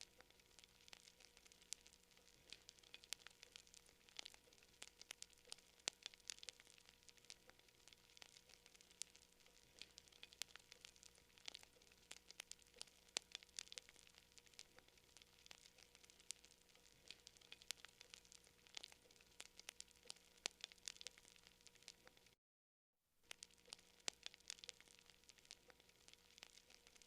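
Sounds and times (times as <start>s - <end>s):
wood fire crackling: 0.0s - 22.4s, 23.2s - 27.0s.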